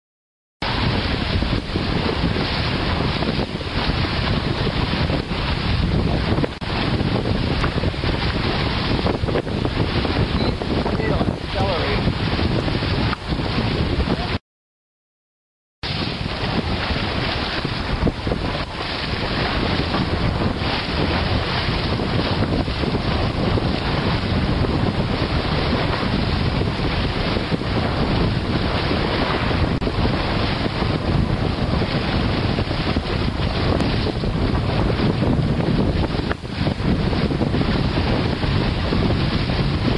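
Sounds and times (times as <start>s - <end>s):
water rushing along hull: 0.6s - 14.4s, 15.8s - 39.9s
wind buffeting microphone: 0.6s - 14.4s, 15.8s - 39.9s.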